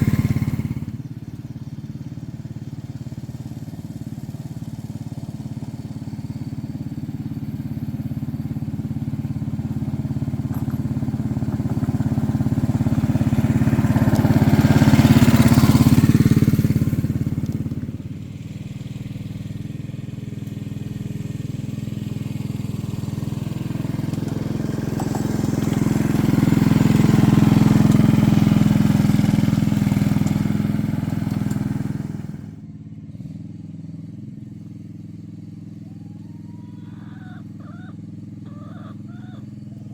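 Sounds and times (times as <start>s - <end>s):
machine engine running: 0.0s - 32.6s.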